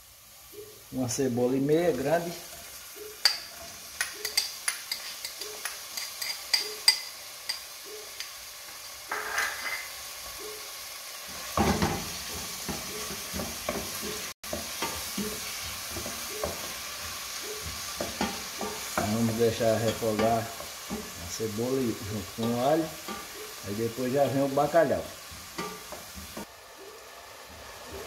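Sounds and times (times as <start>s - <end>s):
onion sizzling in hot oil: 0.0s - 28.0s.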